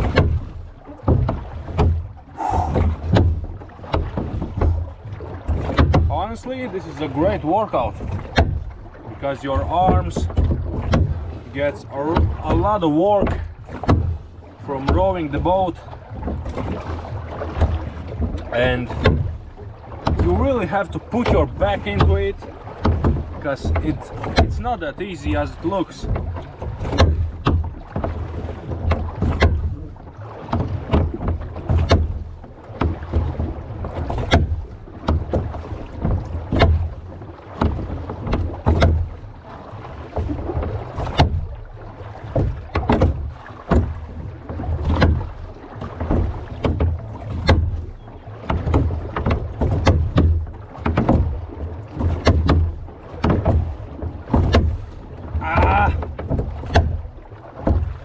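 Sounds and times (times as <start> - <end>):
low thud from hull: 0.0 - 58.0
oar blades splashing: 0.0 - 58.0
oars clacking in oarlocks: 0.0 - 58.0.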